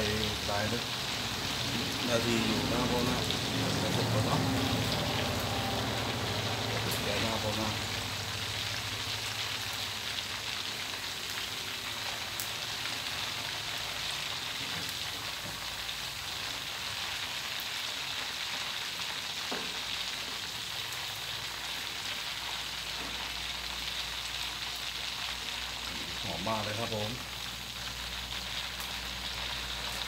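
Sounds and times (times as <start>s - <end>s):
oil sizzling in a wok: 0.0s - 30.0s.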